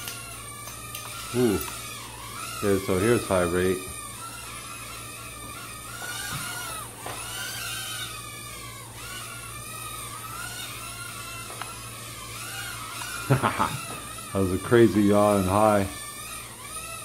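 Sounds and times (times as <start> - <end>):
small drone motors whining: 0.0 - 17.0.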